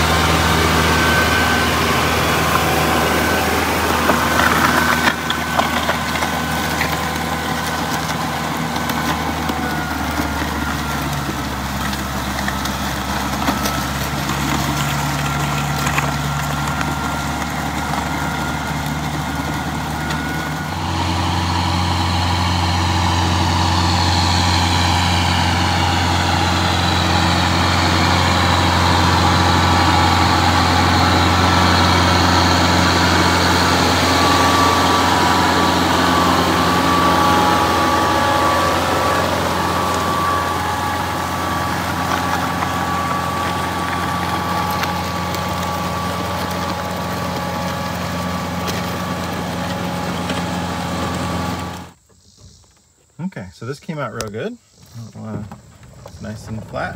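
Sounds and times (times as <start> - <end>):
tractor diesel engine driving past: 0.0 - 52.0.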